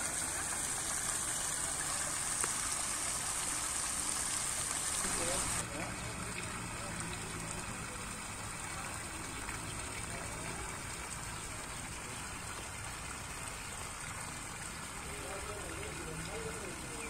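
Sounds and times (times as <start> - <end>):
fountain splashing into pool: 0.0 - 17.0.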